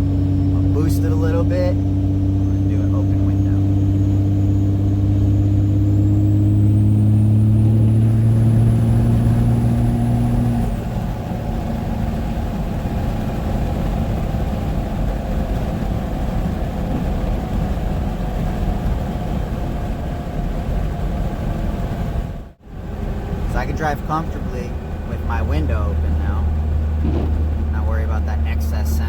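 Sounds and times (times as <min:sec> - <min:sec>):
diesel engine pulling: 0:00.0 - 0:29.0
road and wind noise: 0:00.0 - 0:29.0
tire hum: 0:00.0 - 0:29.0.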